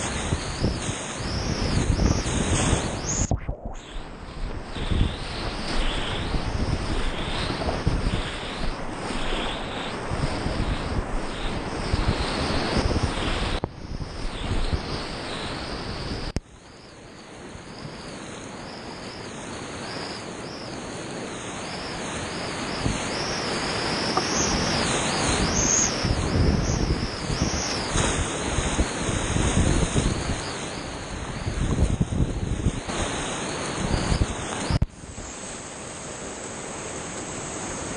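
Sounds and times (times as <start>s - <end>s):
wind noise on microphone: 0.0s - 16.8s, 19.8s - 35.6s.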